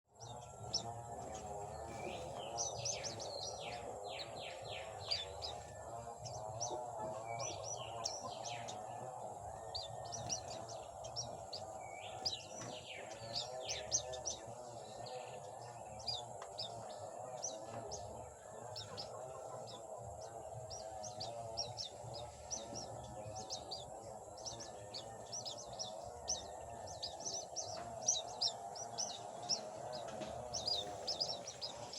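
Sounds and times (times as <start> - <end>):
birds chirping: 0.1 - 31.9
steady wavering low tone: 0.1 - 31.9.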